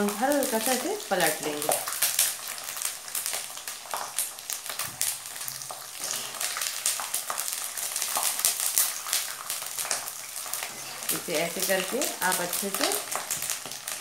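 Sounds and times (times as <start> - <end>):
deep-frying sizzle with crackles: 0.0 - 14.0.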